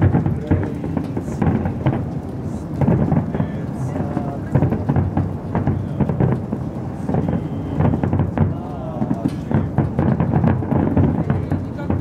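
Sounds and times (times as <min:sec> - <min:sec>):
distant fireworks bangs: 0:00.0 - 0:12.0
fireworks crackling: 0:00.0 - 0:12.0
low rumble: 0:00.0 - 0:12.0.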